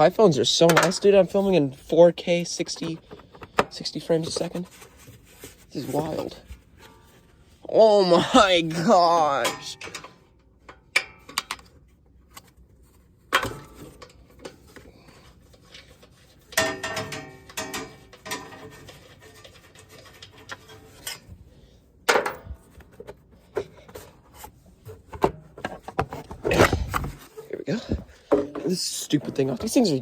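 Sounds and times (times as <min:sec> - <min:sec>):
scraping and rubbing of parts: 0:00.0 - 0:30.0.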